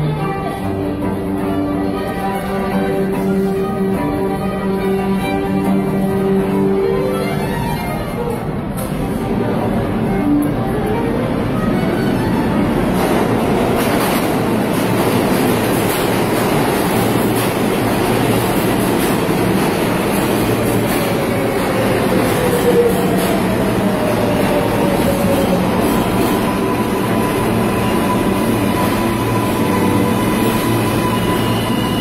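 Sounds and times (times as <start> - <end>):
subway train rumbling and rattling: 0.0 - 32.0.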